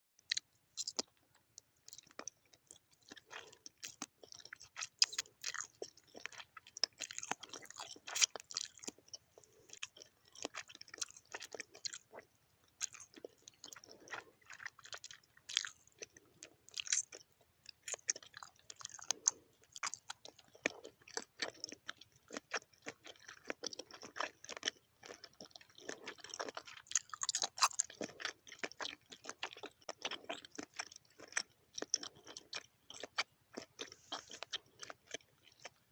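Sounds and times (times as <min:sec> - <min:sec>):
chewing with mouth clicks: 0:00.3 - 0:35.9.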